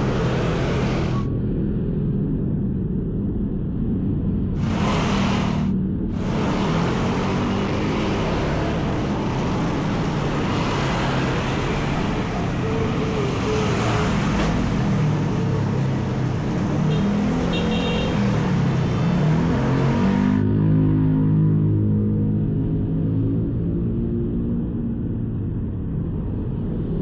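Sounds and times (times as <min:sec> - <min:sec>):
passing vehicle engines: 0:00.0 - 0:01.4, 0:04.6 - 0:25.9
road rumble: 0:00.0 - 0:27.0.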